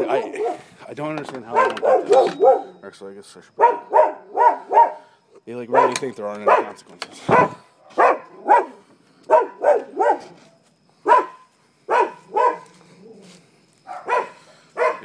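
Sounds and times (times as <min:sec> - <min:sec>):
dogs barking: 0:00.0 - 0:00.7, 0:01.4 - 0:02.8, 0:03.5 - 0:10.4, 0:11.0 - 0:15.0.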